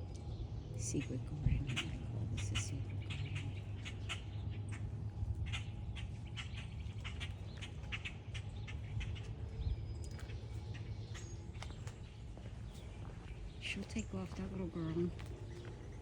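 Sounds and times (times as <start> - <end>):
low rumble: 0.0 - 16.0
small birds chirping: 0.1 - 16.0.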